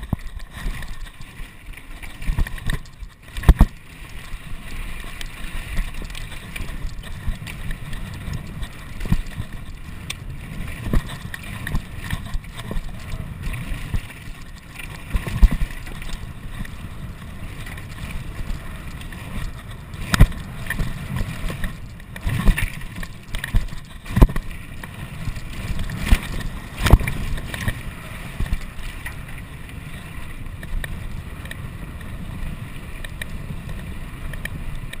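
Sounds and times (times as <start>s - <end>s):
tyres on loose dirt: 0.0s - 35.0s
wind rushing over microphone: 2.2s - 35.0s.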